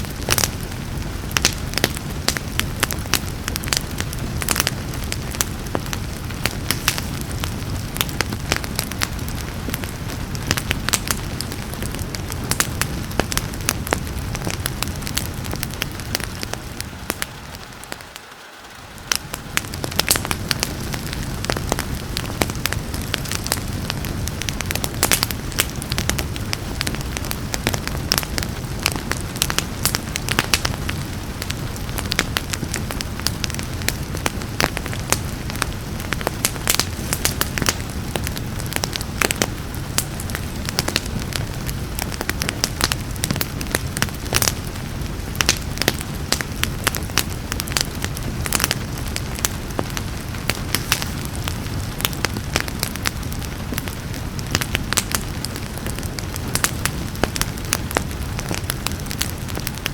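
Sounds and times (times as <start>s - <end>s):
rain: 0.0s - 59.9s
wood fire crackling and popping: 0.0s - 59.9s.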